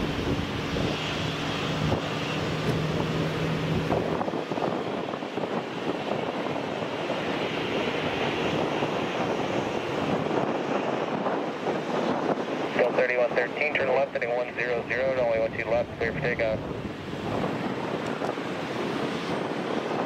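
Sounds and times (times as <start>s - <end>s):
jet engine drone: 0.0s - 20.0s.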